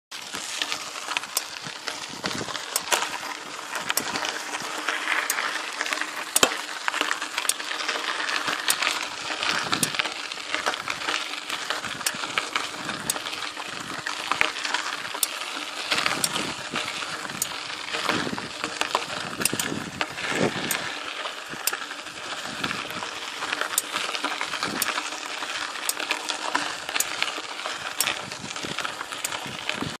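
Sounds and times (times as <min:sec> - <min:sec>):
bicycle chain hissing: 0:00.1 - 0:30.0
sharp tick from bike crank: 0:00.2 - 0:30.0.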